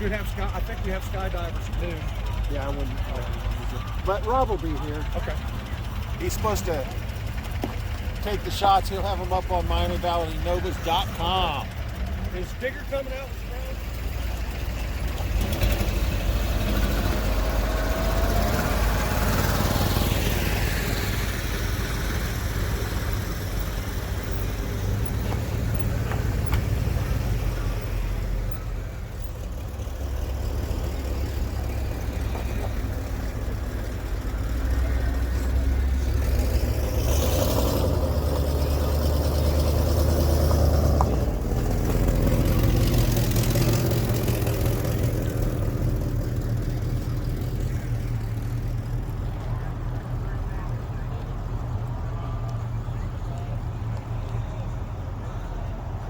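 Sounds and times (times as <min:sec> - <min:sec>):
car engines rolling by slowly: 0:00.0 - 0:56.0.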